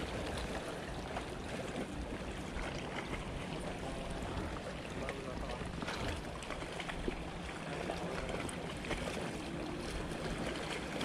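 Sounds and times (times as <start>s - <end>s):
water lapping against rocks: 0.0s - 11.0s.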